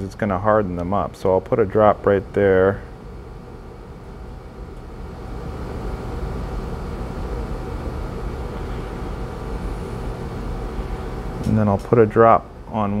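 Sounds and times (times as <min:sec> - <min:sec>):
faint hum: 0:00.0 - 0:13.0
low mechanical rumble: 0:00.0 - 0:13.0.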